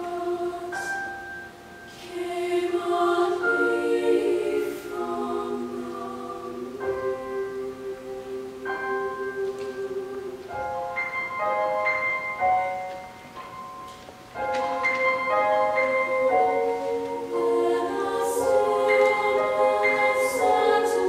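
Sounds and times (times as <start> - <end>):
women's choir singing: 0.0 - 11.0, 14.8 - 21.0
piano accompaniment: 0.0 - 21.0.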